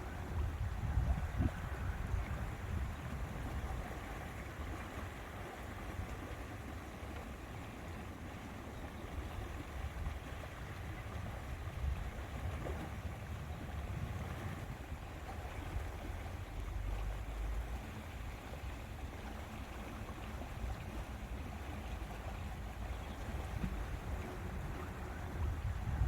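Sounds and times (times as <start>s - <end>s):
wind rumbling on microphone: 0.0s - 6.4s, 9.0s - 26.0s
faint water wash: 0.0s - 26.0s.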